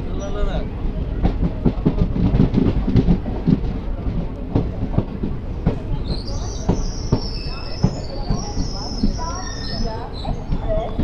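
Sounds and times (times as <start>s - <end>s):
train rumble: 0.0s - 11.0s
train wheels clattering over joints: 0.1s - 11.0s.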